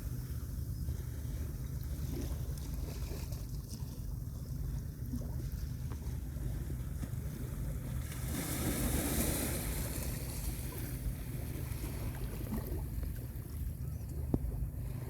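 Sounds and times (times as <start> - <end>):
sea water washing ashore: 0.0 - 15.0
wind rumble on microphone: 0.0 - 15.0.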